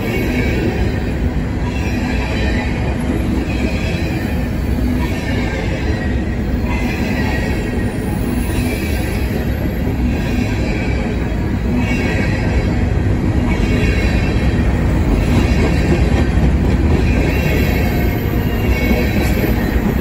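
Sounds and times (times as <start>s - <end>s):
higher-pitched train sound: 0.0s - 20.0s
steel wheels rumbling on rail: 0.0s - 20.0s.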